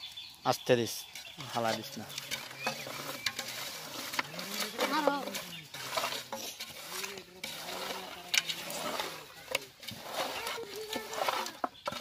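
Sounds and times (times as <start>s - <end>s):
wet squelches of fish mixing: 1.0s - 12.0s.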